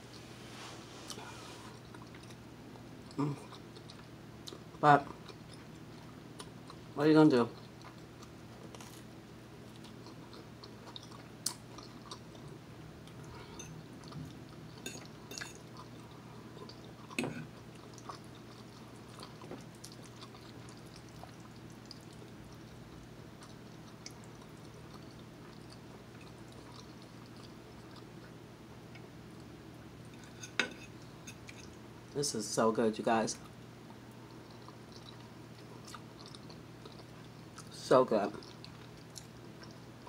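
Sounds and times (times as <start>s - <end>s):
steady low hum: 0.0s - 40.0s
person chewing food: 1.0s - 6.9s, 7.5s - 31.8s, 33.4s - 40.0s.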